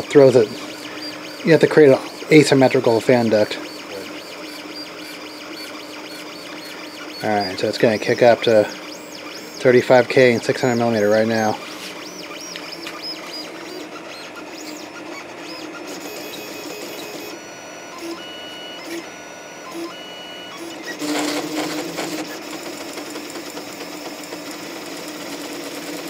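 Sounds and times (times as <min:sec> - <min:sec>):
printer rattling: 0:00.0 - 0:17.3, 0:20.6 - 0:26.0
stepper motors whining and buzzing: 0:00.0 - 0:26.0.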